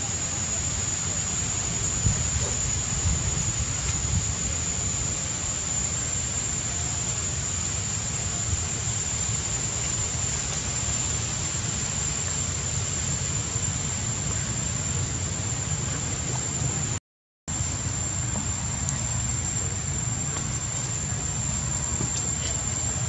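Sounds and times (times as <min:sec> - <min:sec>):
even hiss: 0:00.0 - 0:23.0
high-pitched whine: 0:00.0 - 0:23.0.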